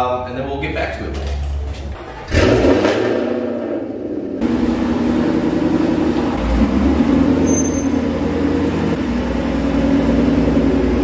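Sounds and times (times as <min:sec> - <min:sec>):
car engine rumbling: 0:01.3 - 0:11.0.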